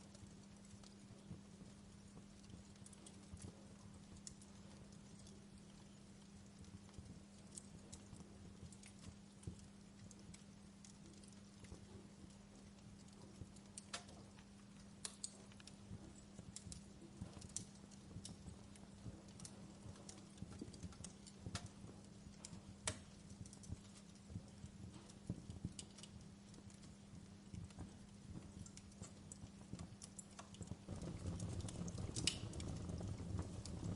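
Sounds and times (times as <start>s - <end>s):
faint low hum: 0.0s - 33.9s
wood fire crackling: 0.0s - 33.9s.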